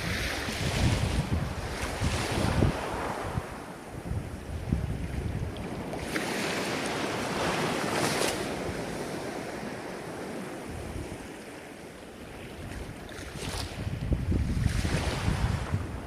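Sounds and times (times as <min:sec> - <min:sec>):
ocean waves breaking on shore: 0:00.0 - 0:16.0.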